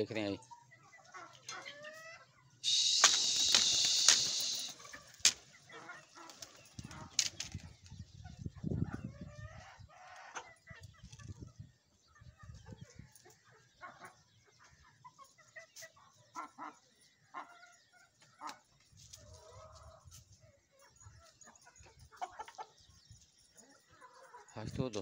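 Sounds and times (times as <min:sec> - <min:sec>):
chickens clucking: 0:00.1 - 0:25.0.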